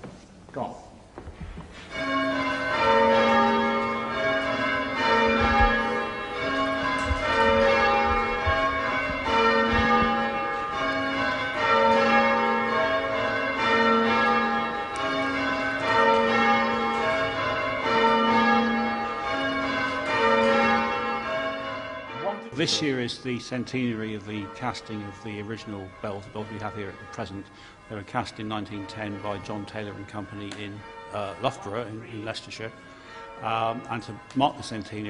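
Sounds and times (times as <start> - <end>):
church bells change ringing: 1.8 - 35.0.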